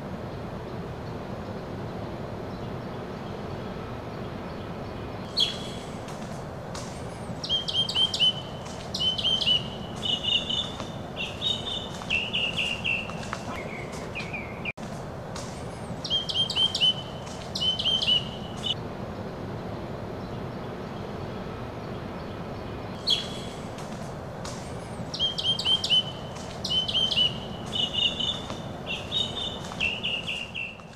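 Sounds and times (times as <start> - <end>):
songbird singing: 0.0 - 30.9
steady background hum: 0.0 - 30.9.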